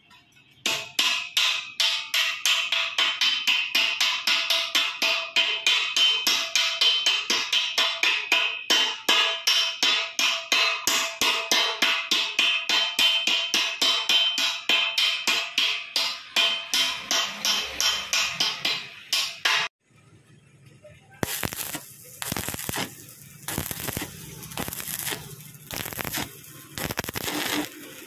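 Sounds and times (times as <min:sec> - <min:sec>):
hammer striking steel pipe: 0:00.6 - 0:19.7, 0:21.2 - 0:28.0.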